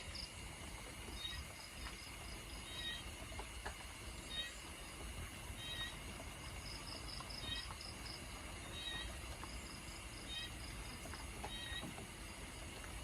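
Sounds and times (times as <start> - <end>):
cricket trilling: 0.0 - 12.8
light rain with drips: 0.0 - 13.0.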